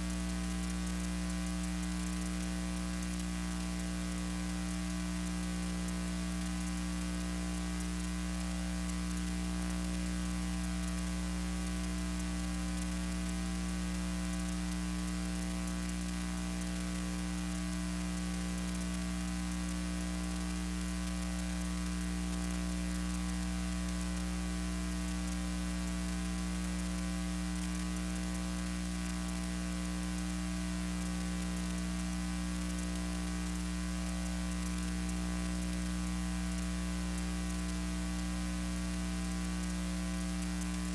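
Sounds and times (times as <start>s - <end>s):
mains hum: 0.0s - 40.9s
static hiss: 0.0s - 40.9s.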